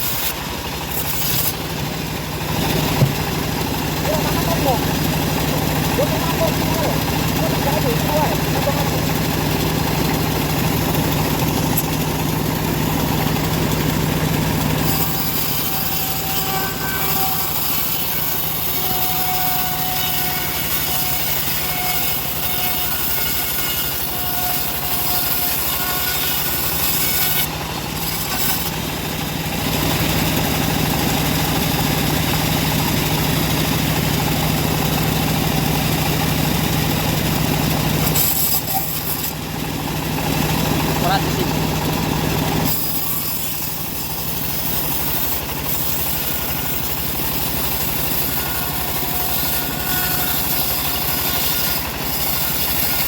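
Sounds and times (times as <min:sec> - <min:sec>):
bandsaw blade cutting wood: 0:00.0 - 0:53.0
bandsaw motor hum: 0:00.0 - 0:53.0.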